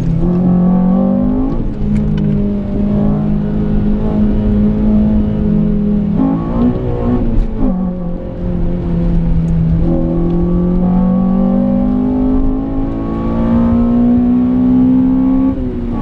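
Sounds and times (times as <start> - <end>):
car engine running under load: 0.0 - 16.0.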